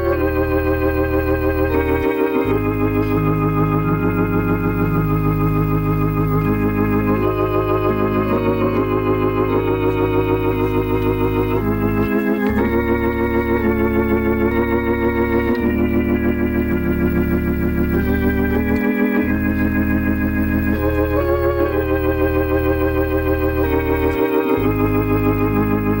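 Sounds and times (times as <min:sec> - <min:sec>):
organ playing a hymn: 0:00.0 - 0:26.0.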